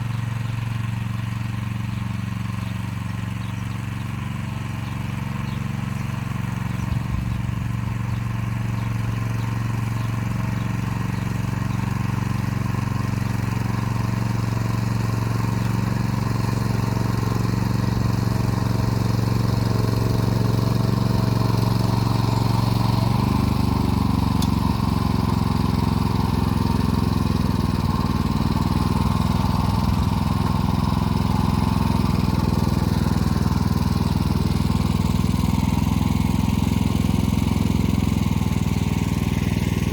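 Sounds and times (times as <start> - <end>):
walk-behind tractor engine running: 0.0 - 39.9.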